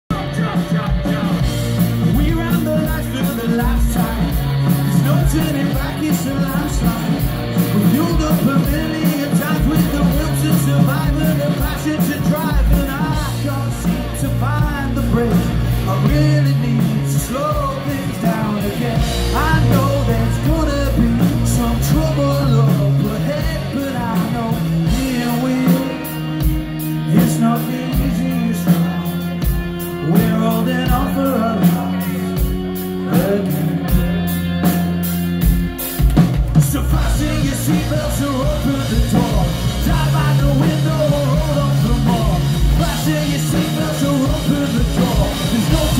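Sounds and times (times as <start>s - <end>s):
man singing lead vocal: 0.0s - 34.8s, 36.4s - 45.9s
live rock band: 0.1s - 45.9s.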